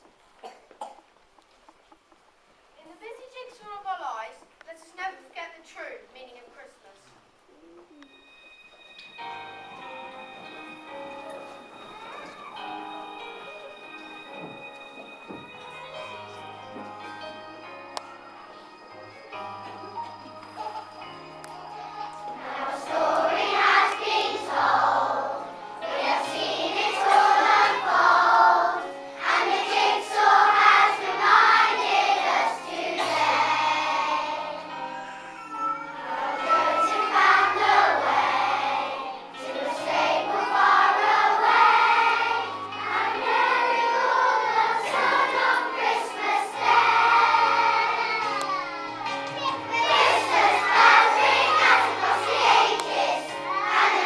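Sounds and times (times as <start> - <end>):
children's choir singing: 9.2 - 34.9, 35.8 - 54.0.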